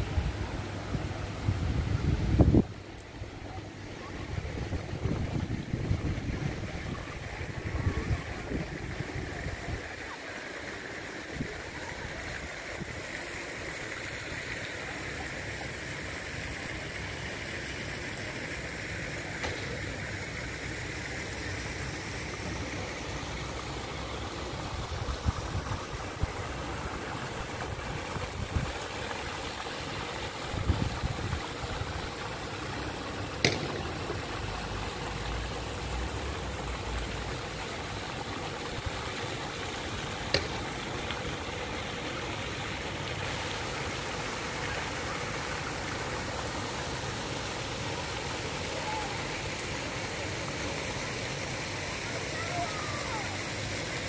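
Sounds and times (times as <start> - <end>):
rushing outdoor background noise: 0.0 - 54.0.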